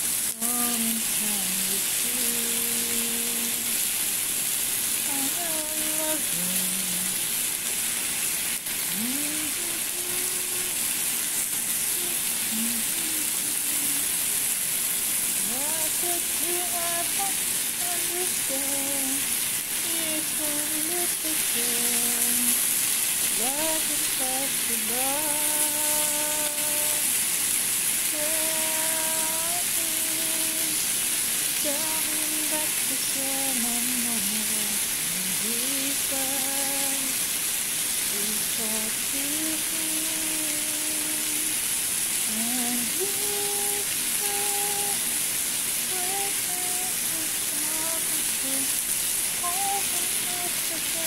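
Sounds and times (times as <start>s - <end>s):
person singing a melody: 0.0s - 3.9s, 5.0s - 7.5s, 8.7s - 14.4s, 15.3s - 37.4s, 38.0s - 51.0s
chicken sizzling in a pan: 0.0s - 51.0s.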